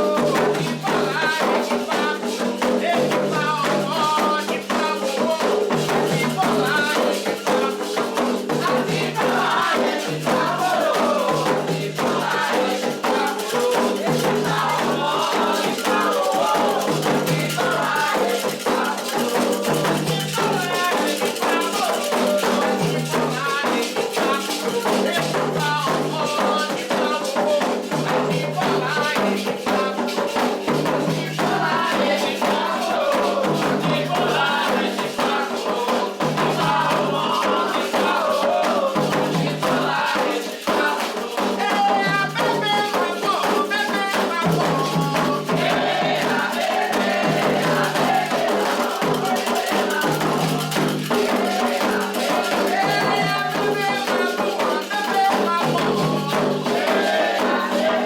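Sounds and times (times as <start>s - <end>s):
ritual percussion: 0.0s - 58.0s
shaken rattles: 0.0s - 58.0s
sung chant: 0.0s - 58.0s.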